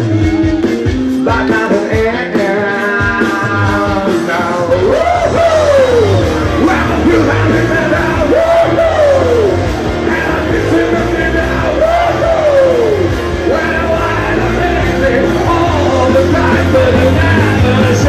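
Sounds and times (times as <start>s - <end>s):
man singing and shouting: 0.0s - 18.0s
rock band playing: 0.0s - 18.0s.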